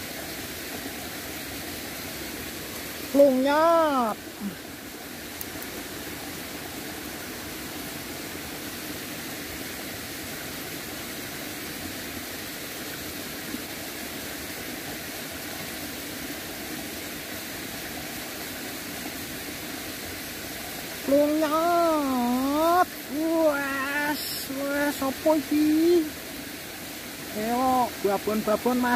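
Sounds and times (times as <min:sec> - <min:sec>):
stream rushing: 0:00.0 - 0:28.9.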